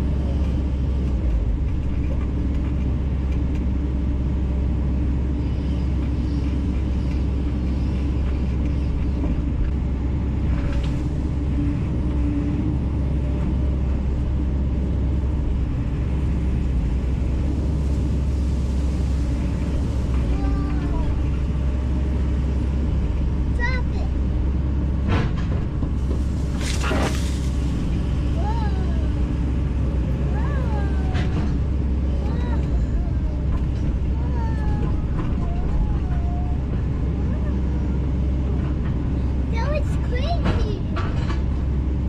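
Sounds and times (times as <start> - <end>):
excavator diesel engine droning: 0.0 - 42.0.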